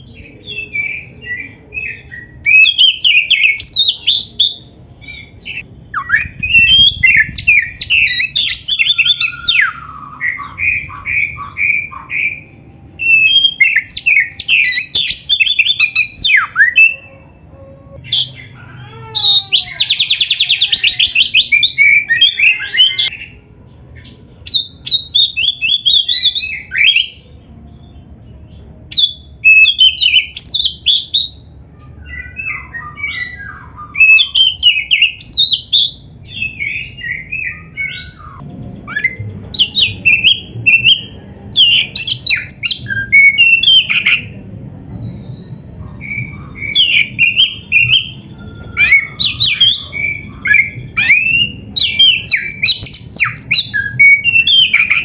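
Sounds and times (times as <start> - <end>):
bird singing whistled phrases: 0.1 - 27.2, 28.9 - 44.3, 45.1 - 55.0.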